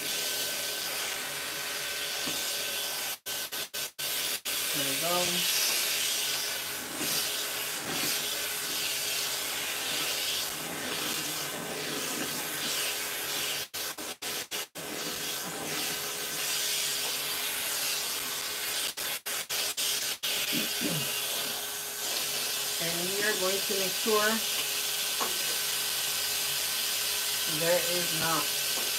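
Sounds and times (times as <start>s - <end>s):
grooming dryer blowing air: 0.0s - 28.9s.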